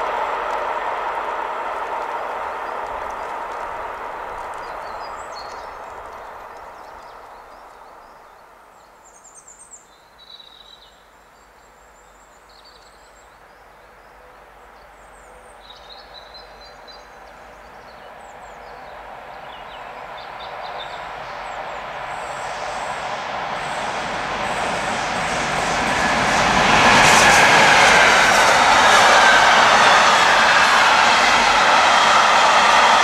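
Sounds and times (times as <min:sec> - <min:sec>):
freight train rumbling: 0:00.0 - 0:08.9, 0:13.8 - 0:33.0.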